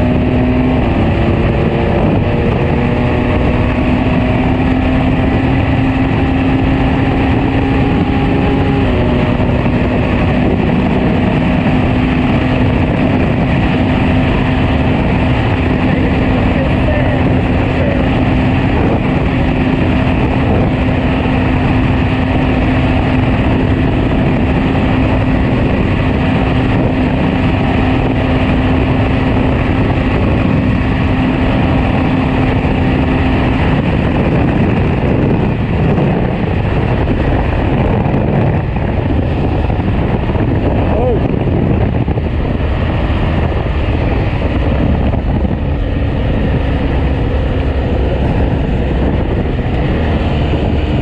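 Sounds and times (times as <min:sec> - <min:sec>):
motorcycle engine running: 0:00.0 - 0:51.0
wind rush and road noise: 0:00.0 - 0:51.0.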